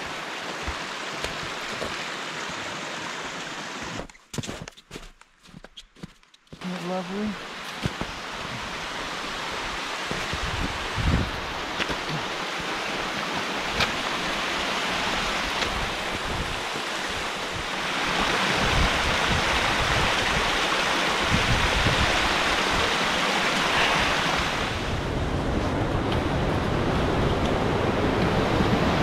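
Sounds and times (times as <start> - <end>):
creek cascading over rocks: 0.0 - 4.1, 6.6 - 27.6.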